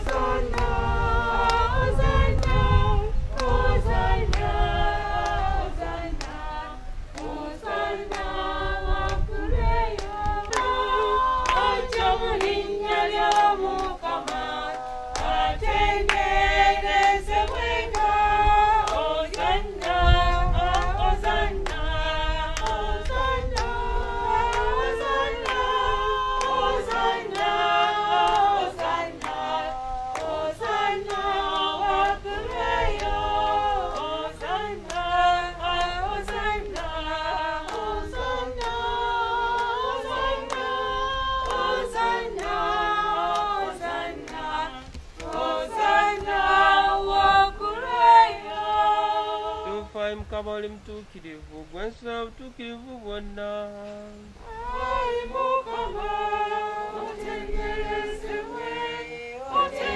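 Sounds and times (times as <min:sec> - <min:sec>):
choir singing a hymn: 0:00.0 - 0:50.5, 0:51.7 - 0:59.9.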